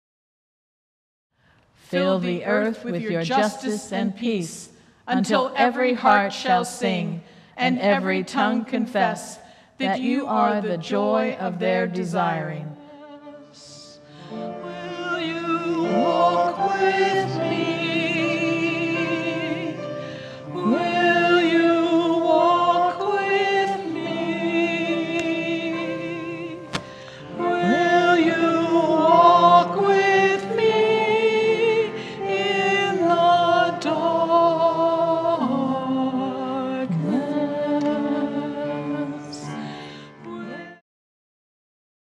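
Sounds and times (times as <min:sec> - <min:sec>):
congregation and choir singing a hymn: 0:01.9 - 0:40.8.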